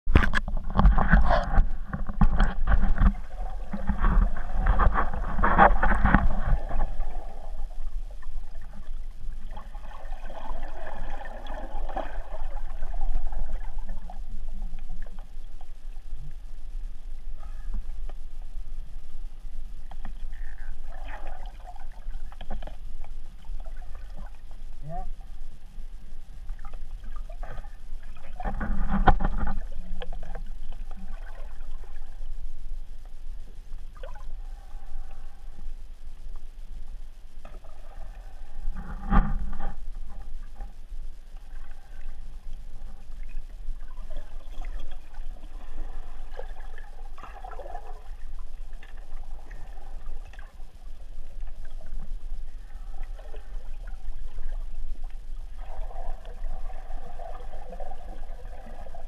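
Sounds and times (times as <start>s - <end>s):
muffled underwater noise: 0.1s - 59.0s
steady low hum: 0.1s - 59.0s.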